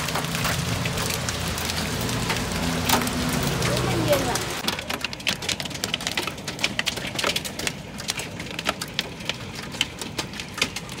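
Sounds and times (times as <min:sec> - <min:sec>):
hailstones pelting down: 0:00.0 - 0:11.0.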